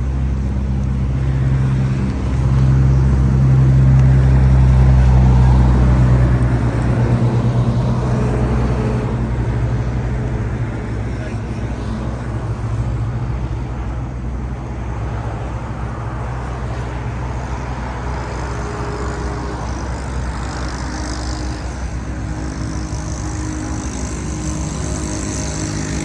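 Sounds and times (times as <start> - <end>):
noisy wash: 0.0 - 26.0.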